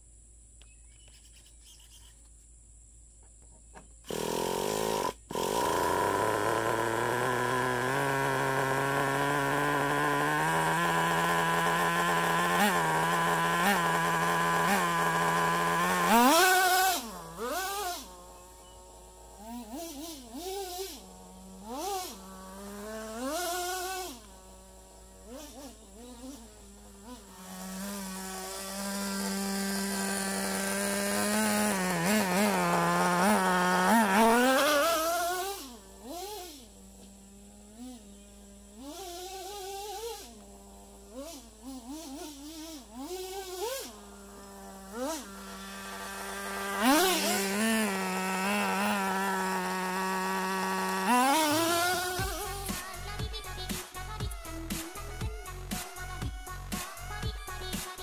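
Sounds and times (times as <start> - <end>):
small nitro engine buzzing: 3.7 - 58.0.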